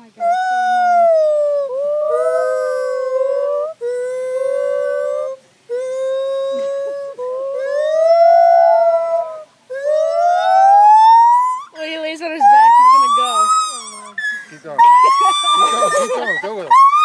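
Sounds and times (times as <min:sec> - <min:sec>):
monkey screaming: 0:00.2 - 0:17.0.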